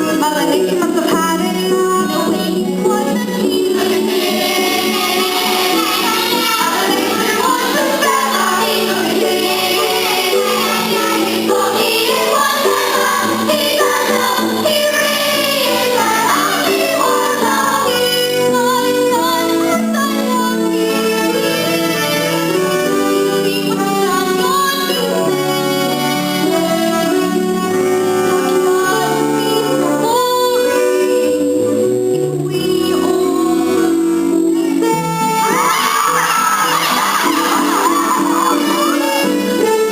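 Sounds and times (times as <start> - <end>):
instrumental backing: 0.0 - 39.9
young voices singing: 0.0 - 39.9.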